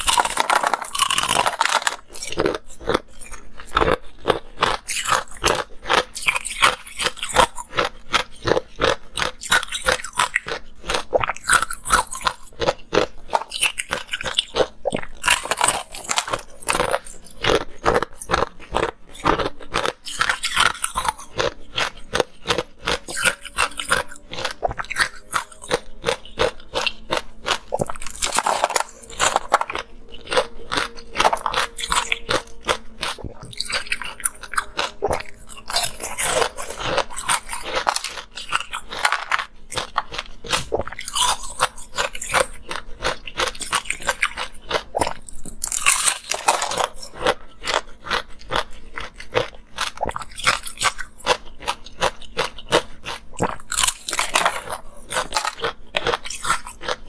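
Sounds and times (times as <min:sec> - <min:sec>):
biting and chewing ice: 0:00.0 - 0:57.0.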